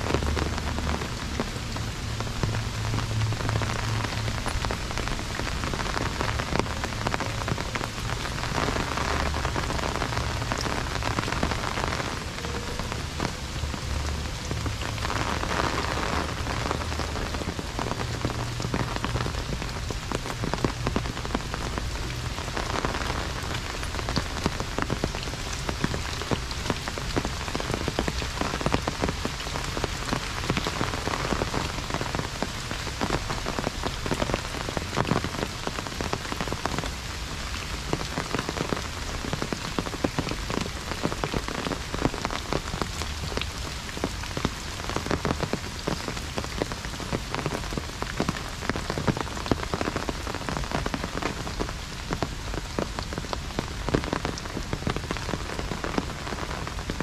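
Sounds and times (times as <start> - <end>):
heavy rain on umbrella: 0.0 - 57.0.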